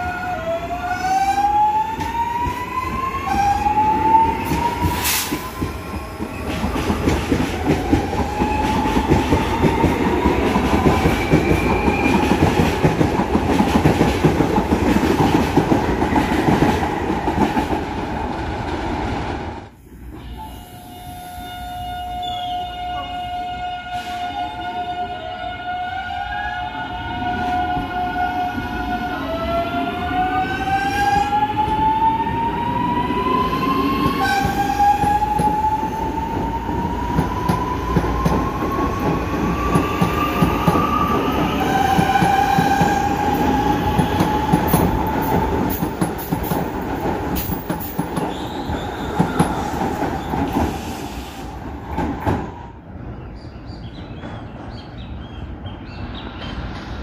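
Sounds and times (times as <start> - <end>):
train wheels rumbling on rail: 0.0 - 22.2, 26.8 - 57.0.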